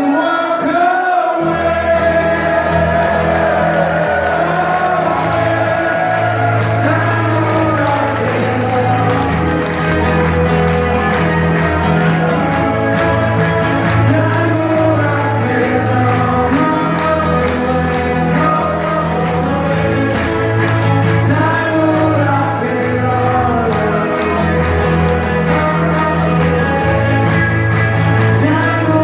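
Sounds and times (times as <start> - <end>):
person singing: 0.0 - 29.0
strummed acoustic guitars: 1.4 - 29.0
bass notes: 1.5 - 29.0.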